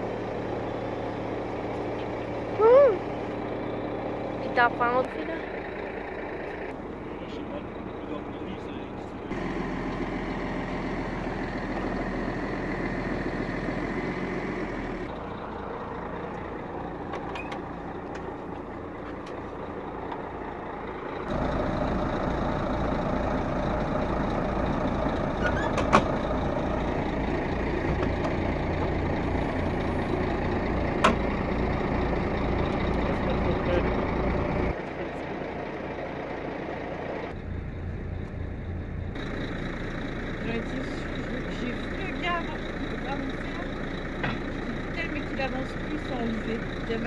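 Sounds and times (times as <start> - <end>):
diesel engine idling: 0.0 - 47.0.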